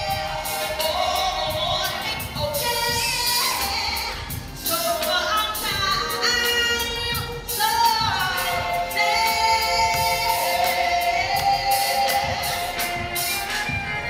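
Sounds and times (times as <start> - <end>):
backing track with steady beat: 0.0 - 14.0
woman singing: 0.0 - 14.0.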